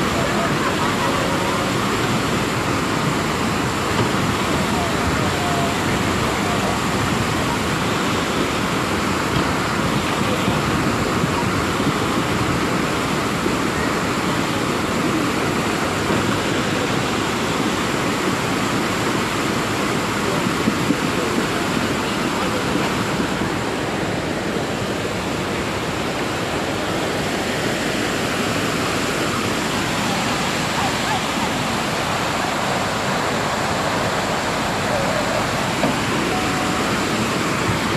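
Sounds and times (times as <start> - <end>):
river torrent rushing: 0.0 - 37.9.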